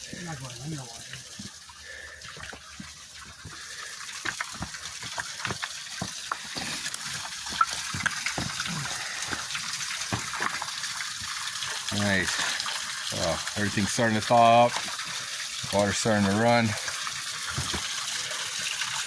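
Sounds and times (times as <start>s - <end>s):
waterfall gushing over rocks: 0.0s - 19.0s.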